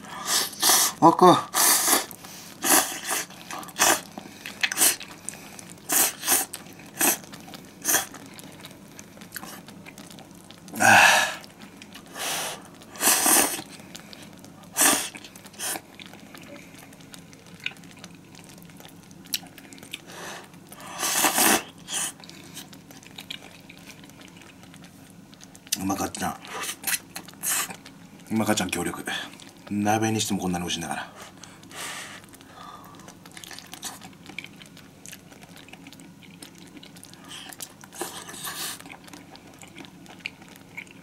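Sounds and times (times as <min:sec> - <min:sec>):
person chewing noodles: 0:00.0 - 0:29.7, 0:31.1 - 0:41.0
noisy slurps: 0:00.0 - 0:41.0.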